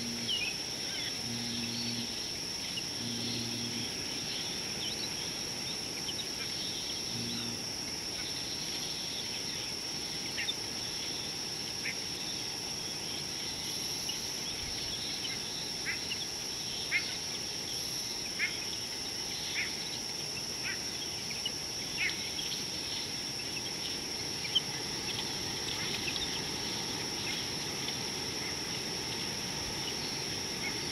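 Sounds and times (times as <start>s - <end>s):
insects droning: 0.0s - 30.9s.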